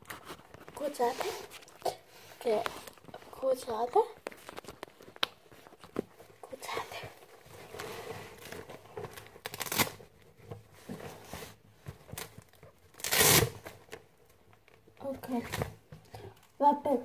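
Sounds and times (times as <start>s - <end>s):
rustling and crinkling: 0.0s - 16.6s.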